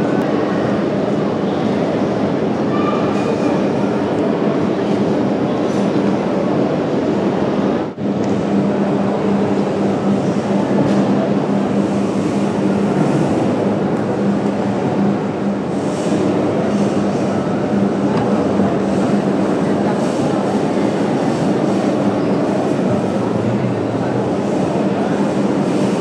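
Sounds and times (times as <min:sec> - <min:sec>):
crowd hubbub: 0:00.0 - 0:26.0.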